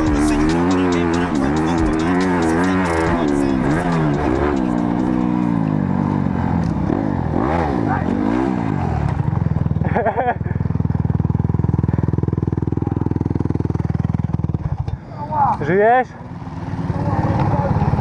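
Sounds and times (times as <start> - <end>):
motorbike engine revving: 0.0 - 15.0, 16.2 - 18.0.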